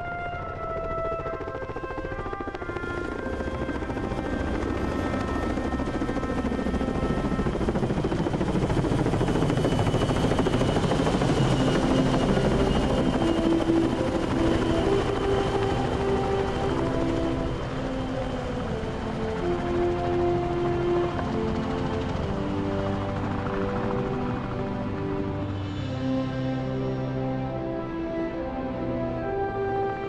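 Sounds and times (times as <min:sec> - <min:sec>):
faint musical tones: 0:00.0 - 0:30.0
helicopter rotors beating: 0:00.0 - 0:30.0
music: 0:00.0 - 0:30.0.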